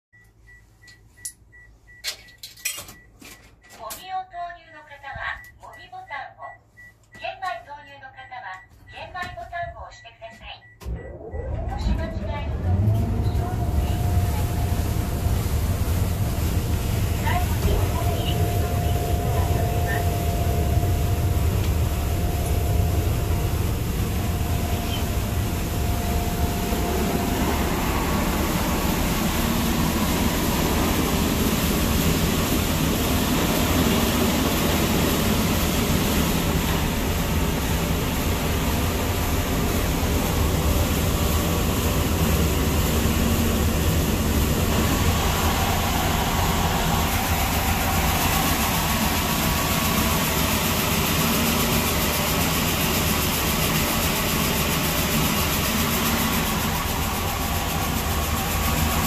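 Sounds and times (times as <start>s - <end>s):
motor hum: 10.8s - 59.0s.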